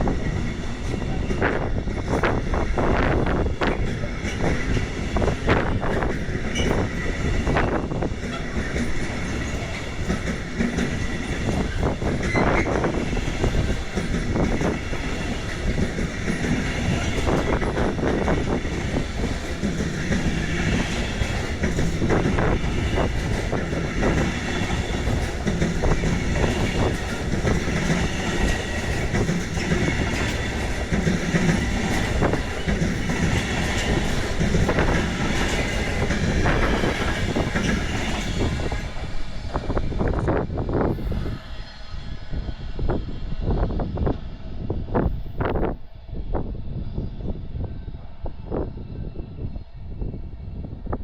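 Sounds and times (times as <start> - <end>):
train wheels clattering over joints: 0.0 - 40.9.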